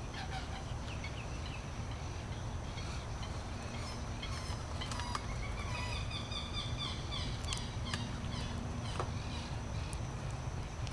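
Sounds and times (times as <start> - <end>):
wetland birds calling: 0.0 - 10.0
low background rumble: 0.0 - 10.9.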